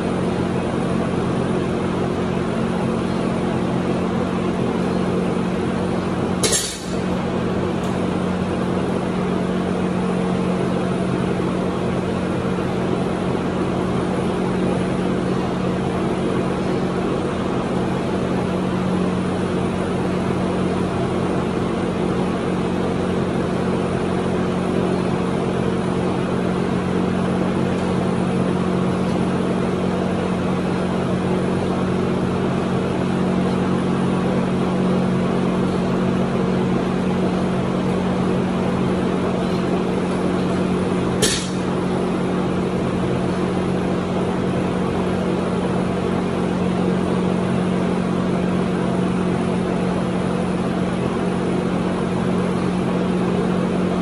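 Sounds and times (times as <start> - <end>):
mechanical hum: 0.0 - 54.0.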